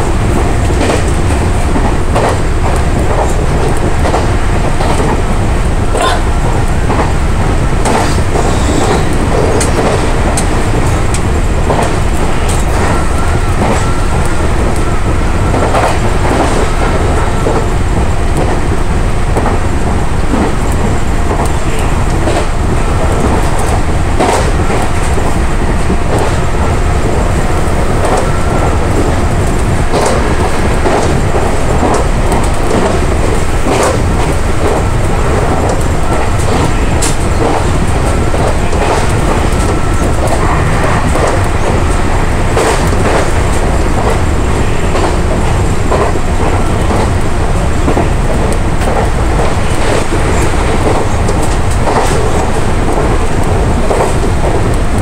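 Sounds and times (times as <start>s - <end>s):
train wheels rumbling on rail: 0.0s - 55.0s
track clicks and clatters: 0.1s - 55.0s.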